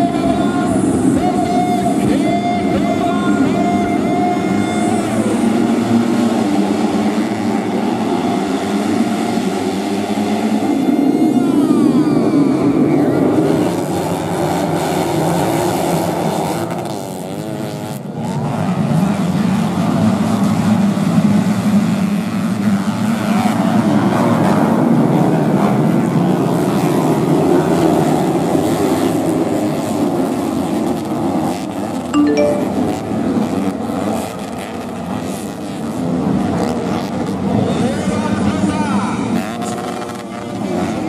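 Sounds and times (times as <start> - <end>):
motorcycle engines revving: 0.7 - 32.0, 33.8 - 41.0.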